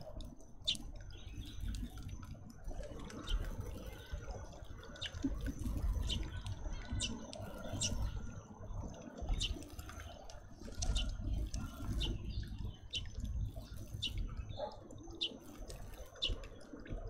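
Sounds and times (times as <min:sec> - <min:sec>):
birds chirping: 0:00.6 - 0:17.0.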